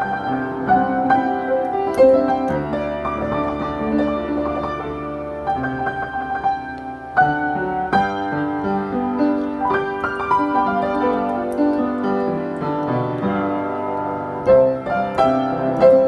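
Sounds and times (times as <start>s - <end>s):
slow solo piano ballad: 0.0s - 16.0s.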